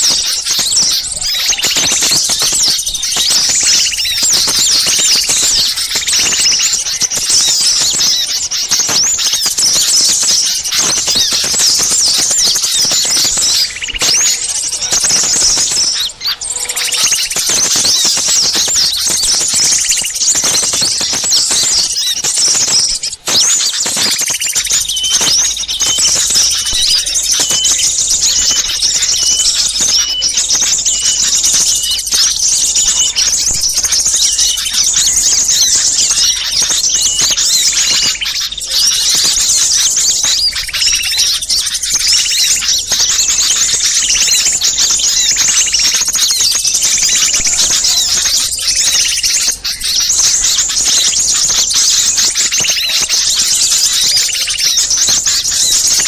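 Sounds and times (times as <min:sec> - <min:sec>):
chorus of small birds: 0:00.0 - 0:56.0.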